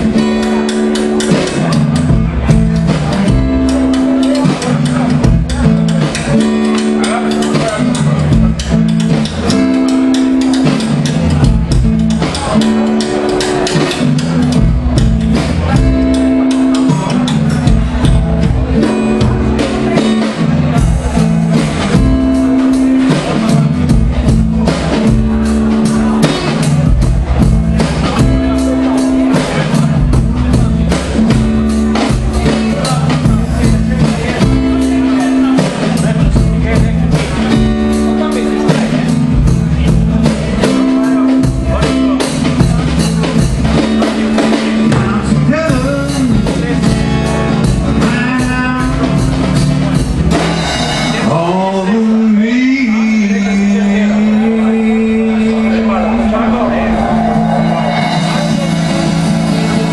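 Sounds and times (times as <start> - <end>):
acoustic guitar playing: 0.0 - 59.9
drums steady beat: 0.0 - 59.9
person singing: 0.0 - 59.9.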